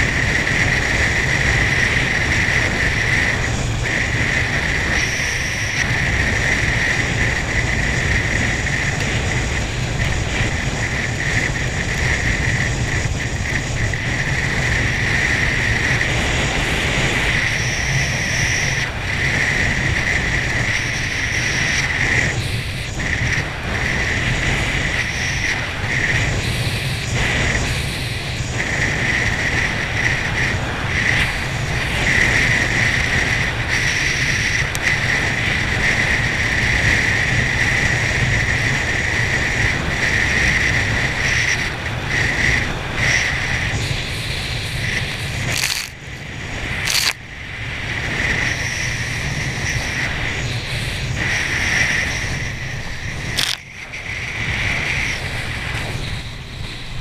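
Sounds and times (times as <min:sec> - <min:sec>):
high-pitched whine: 0:00.0 - 0:57.0
wind and spray rushing: 0:00.0 - 0:57.0.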